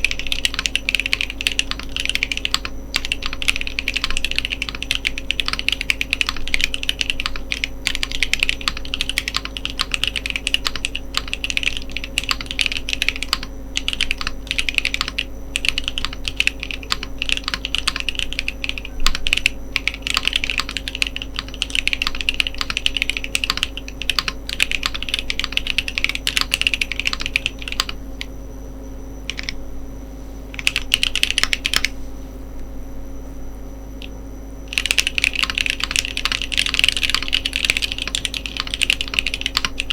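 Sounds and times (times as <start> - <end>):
fast typing on mechanical keyboard: 0.0 - 28.3, 29.3 - 29.6, 30.6 - 31.9, 34.7 - 39.9.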